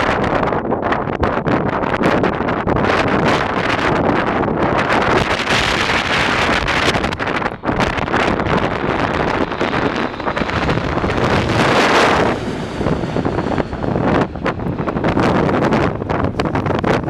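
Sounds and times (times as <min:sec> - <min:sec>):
jet engines passing overhead: 0:00.0 - 0:17.0
wind buffeting microphone: 0:00.0 - 0:17.0.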